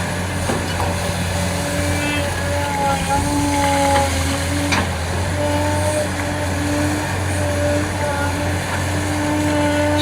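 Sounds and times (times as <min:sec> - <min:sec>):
excavator diesel engine under load: 0:00.0 - 0:10.0
hydraulic whine: 0:00.6 - 0:10.0.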